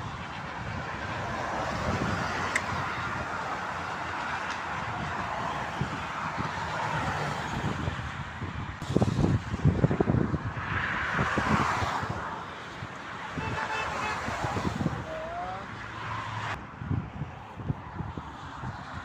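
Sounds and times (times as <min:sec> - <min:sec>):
wind buffeting microphone: 0:00.0 - 0:15.2, 0:16.5 - 0:19.0
motorway traffic passing: 0:00.0 - 0:19.0.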